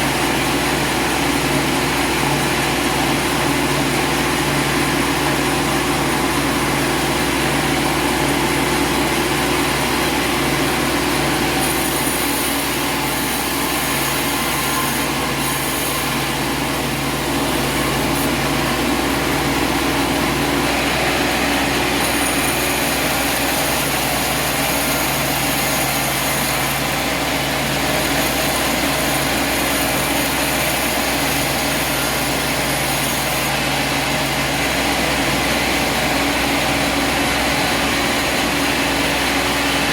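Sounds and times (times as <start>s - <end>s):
engine running with hiss: 0.0s - 39.9s.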